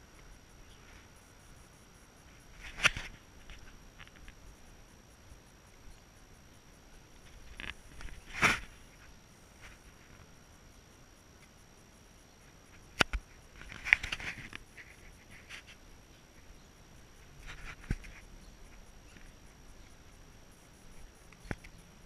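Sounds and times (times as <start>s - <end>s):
faint high whine: 0.0s - 22.0s.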